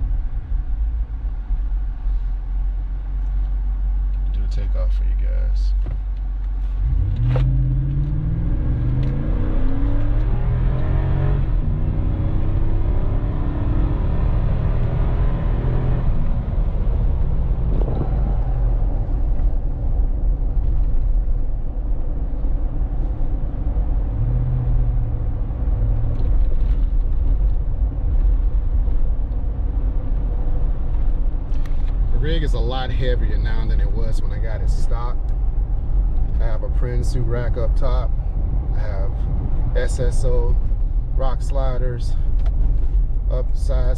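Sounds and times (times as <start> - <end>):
car engine accelerating hard: 6.7 - 43.9.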